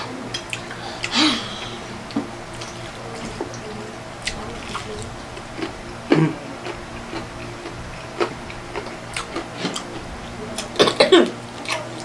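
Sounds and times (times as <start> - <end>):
person chewing with lip smacks: 0.3 - 11.9.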